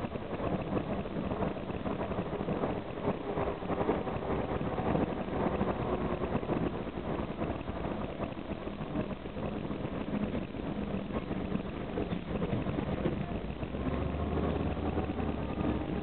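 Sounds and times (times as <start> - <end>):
bus diesel engine running: 0.0 - 16.0
road noise: 0.0 - 16.0.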